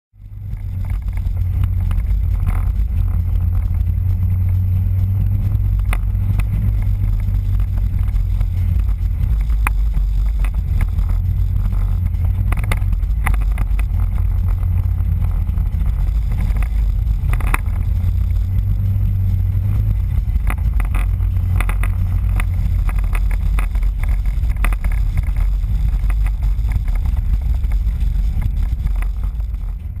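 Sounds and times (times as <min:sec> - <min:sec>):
car engine and tyres rumbling: 0:00.1 - 0:30.0
knocks and clicks: 0:00.3 - 0:30.0.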